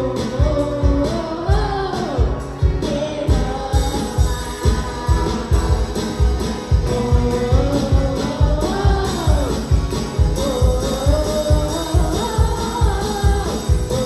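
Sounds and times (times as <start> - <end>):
gospel singing voices: 0.0 - 14.0
instrumental accompaniment: 0.0 - 14.0
steady drum beat: 0.0 - 14.0.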